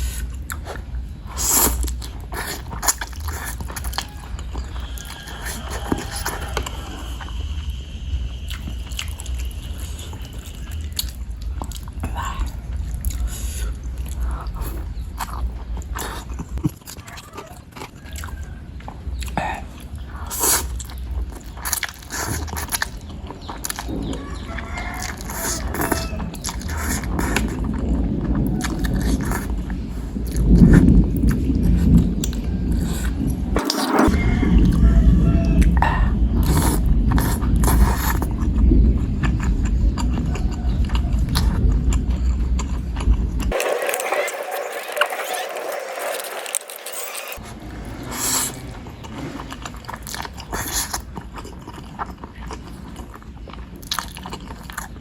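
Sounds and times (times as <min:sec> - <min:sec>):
wet chewing and mouth smacks: 0:00.0 - 0:07.4, 0:08.4 - 0:34.9, 0:35.5 - 0:43.6, 0:47.4 - 0:55.0
steady low rumble: 0:00.0 - 0:16.9, 0:18.0 - 0:55.0.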